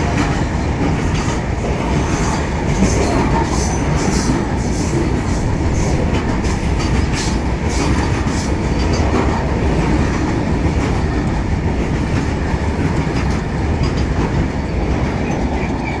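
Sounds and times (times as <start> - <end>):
wheels clacking over rail joints: 0.0 - 16.0.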